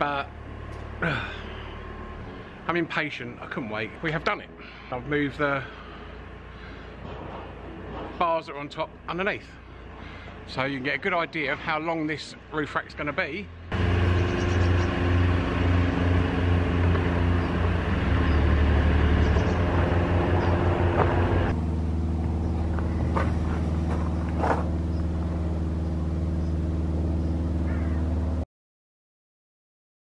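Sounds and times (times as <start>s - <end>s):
vehicle engine idling: 0.0s - 28.4s.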